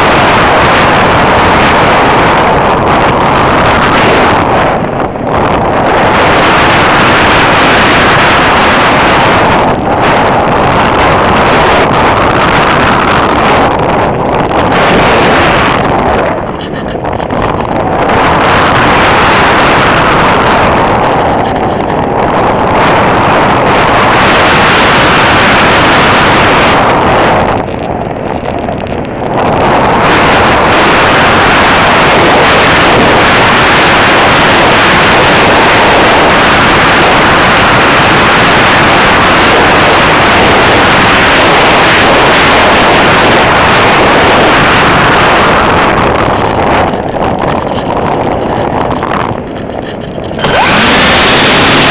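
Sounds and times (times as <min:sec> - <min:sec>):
plane engine and propeller: 0:00.0 - 0:51.9
wind rushing over microphone: 0:00.0 - 0:51.9.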